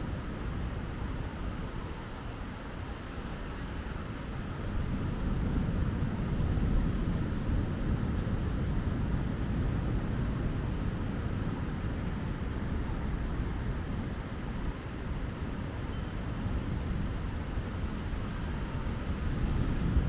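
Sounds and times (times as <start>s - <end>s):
surf on a beach: 0.0s - 20.0s
wind buffeting microphone: 3.8s - 20.0s.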